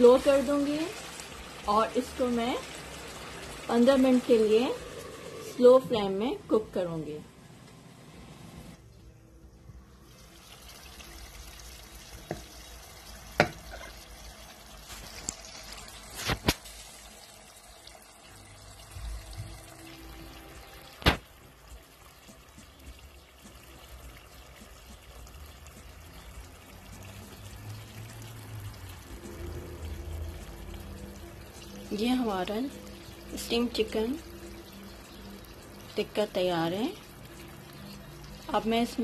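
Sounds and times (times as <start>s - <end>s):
oil sizzling and bubbling: 0.0s - 39.0s.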